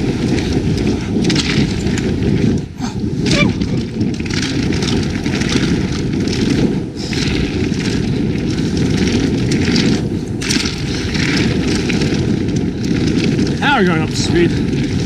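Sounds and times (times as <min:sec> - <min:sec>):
bike tyres rattling over dirt: 0:00.0 - 0:15.0
wind rushing over microphone: 0:00.0 - 0:15.0.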